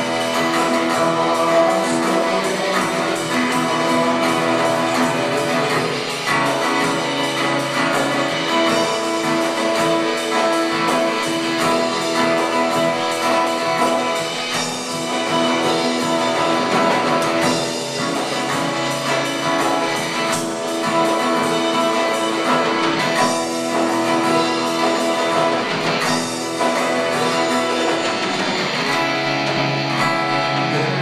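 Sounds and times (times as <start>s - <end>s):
instrumental worship song guitar: 0.0s - 31.0s.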